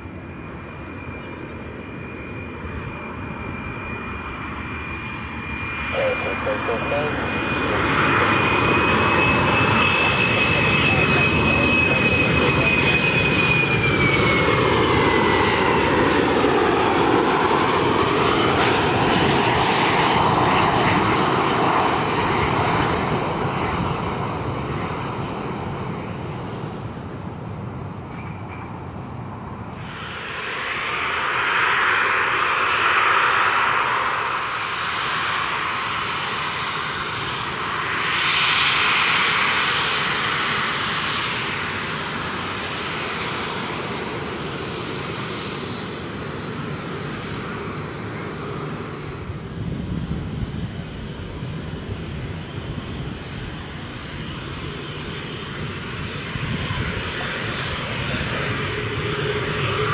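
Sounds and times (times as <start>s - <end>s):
aircraft engine rushing: 0.0s - 59.9s.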